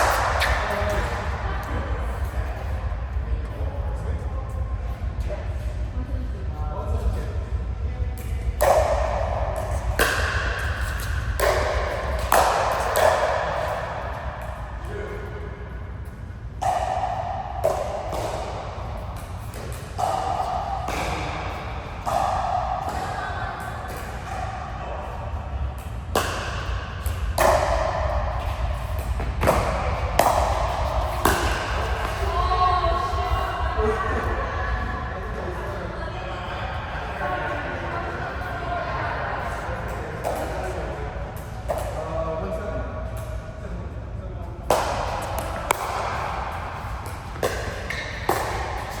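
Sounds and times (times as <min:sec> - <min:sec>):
sharp ball hits in a hall: 0:00.0 - 0:35.9, 0:39.4 - 0:43.7, 0:44.4 - 0:49.0
steady low hum: 0:00.0 - 0:49.0.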